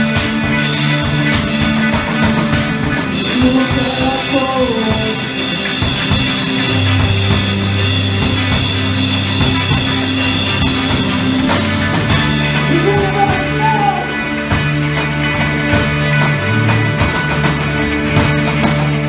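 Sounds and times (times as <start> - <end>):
drum kit hits: 0.0 - 19.0
live rock band playing: 0.0 - 19.0.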